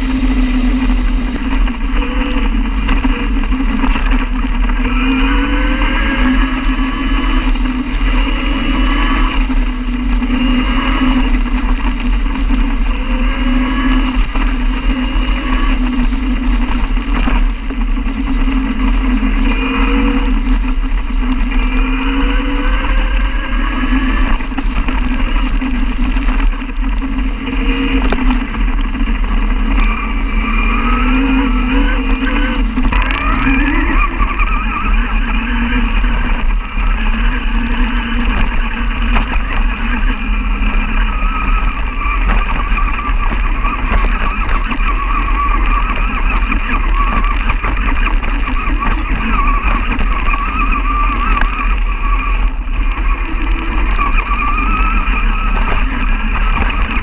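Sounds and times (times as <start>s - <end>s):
electric motorcycle motor whining: 0.0s - 57.0s
wind rumbling on microphone: 0.0s - 57.0s.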